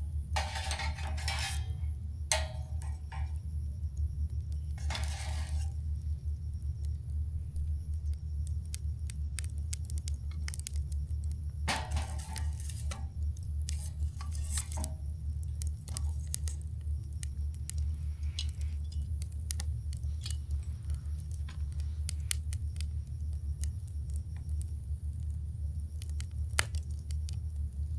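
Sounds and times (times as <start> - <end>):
campfire crackling: 0.0 - 27.9
fire hissing flare-up: 0.1 - 27.9.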